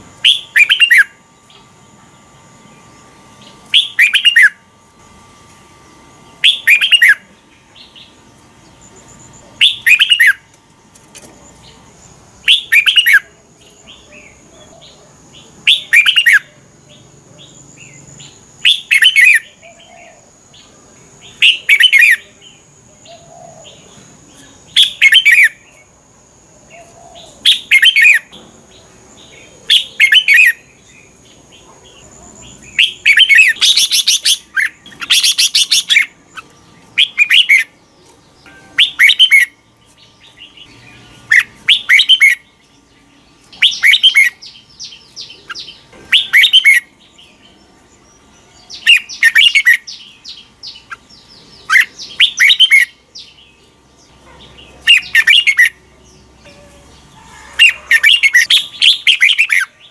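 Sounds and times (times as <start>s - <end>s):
bulbul singing warbled phrases: 0.0s - 4.7s, 6.2s - 10.6s, 11.4s - 26.0s, 26.6s - 59.9s.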